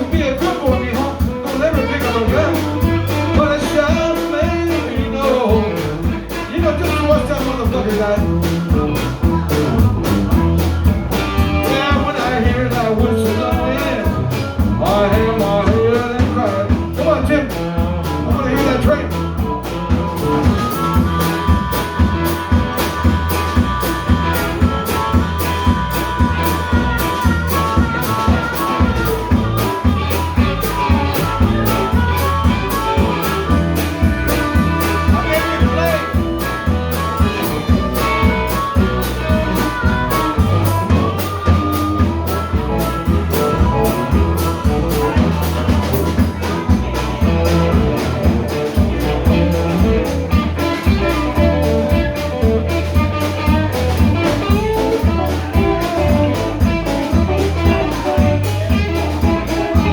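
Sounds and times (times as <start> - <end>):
band playing instrumental: 0.0 - 59.9.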